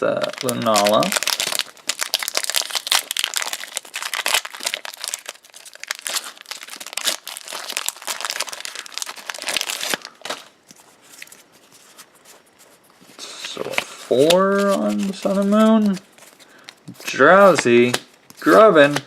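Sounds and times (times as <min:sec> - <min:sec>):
foil wrapper crinkling and tearing: 0:00.0 - 0:12.0, 0:13.2 - 0:19.0.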